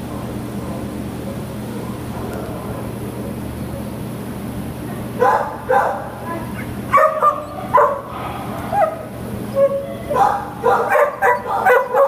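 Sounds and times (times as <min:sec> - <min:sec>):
dogs yipping and barking: 0:00.0 - 0:04.2, 0:04.9 - 0:12.0
low background hum: 0:00.0 - 0:12.0.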